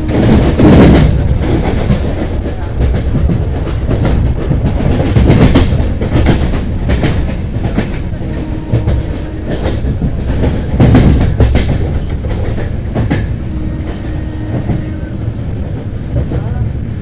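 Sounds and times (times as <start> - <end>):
clickety-clack over rail joints: 0.0 - 17.0
train wheels rumbling on rails: 0.0 - 17.0.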